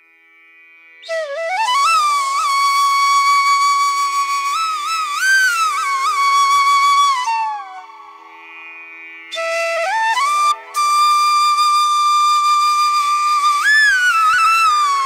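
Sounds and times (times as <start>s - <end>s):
flute melody: 1.0s - 8.2s, 9.3s - 15.0s.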